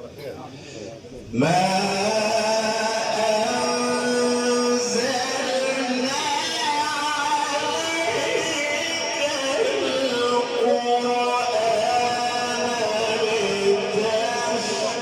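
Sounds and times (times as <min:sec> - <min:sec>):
person chanting recitation: 0:01.3 - 0:15.0.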